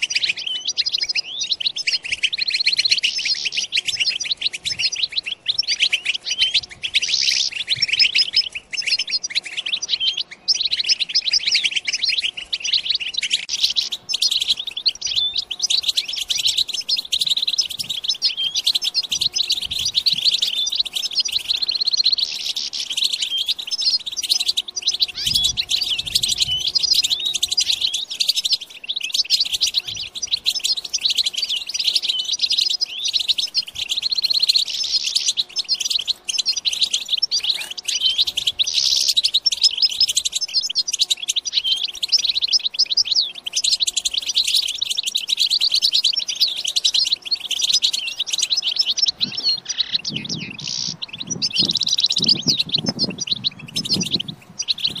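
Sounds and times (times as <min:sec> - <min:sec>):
goldfinches twittering: 0:00.0 - 0:55.0.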